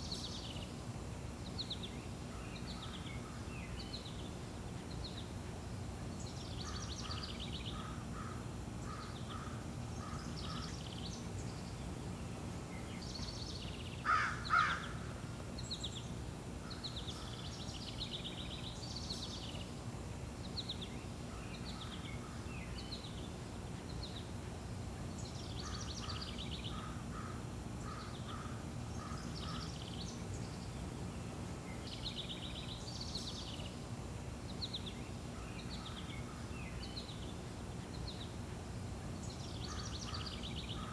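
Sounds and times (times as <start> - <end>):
low background noise: 0.0 - 40.9
small birds chirping: 0.0 - 40.9.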